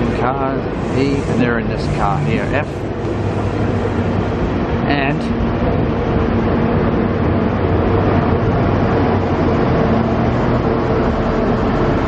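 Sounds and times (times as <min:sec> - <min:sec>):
train passing with low hum: 0:00.0 - 0:12.0.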